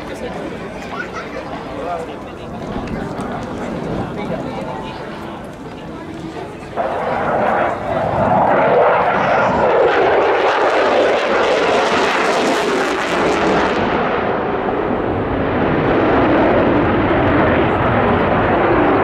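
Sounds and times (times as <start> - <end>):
fighter jet roar: 0.0 - 19.0.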